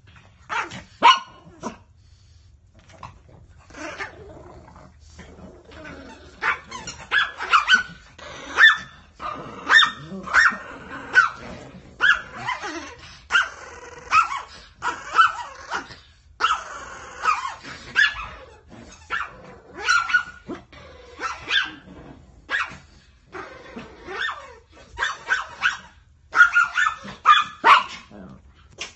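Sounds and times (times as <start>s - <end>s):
dogs barking and growling: 0.0s - 28.9s.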